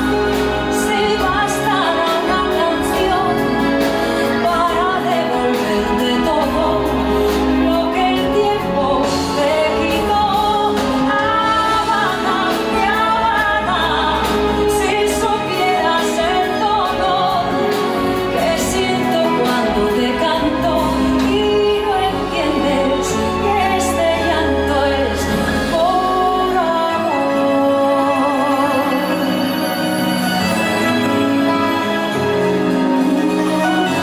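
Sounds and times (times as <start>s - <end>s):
salsa music with singing: 0.0s - 34.0s.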